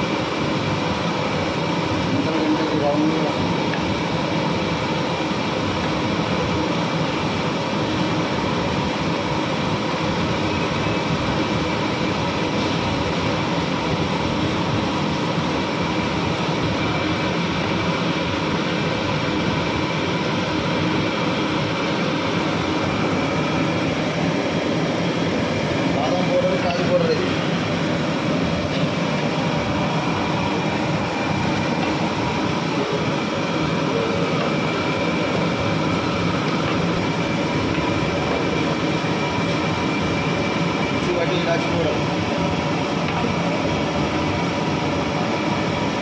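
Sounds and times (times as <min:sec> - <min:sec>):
gas burner rushing: 0:00.0 - 0:46.0.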